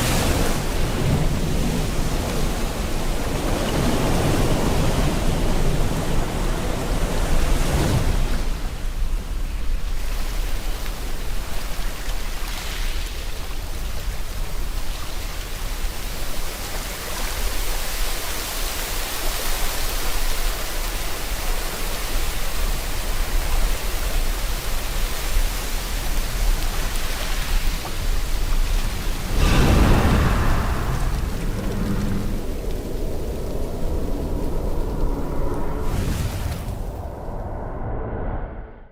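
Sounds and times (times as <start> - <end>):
heavy rain hiss: 0.0 - 37.0
ocean surf rumble: 0.0 - 38.9.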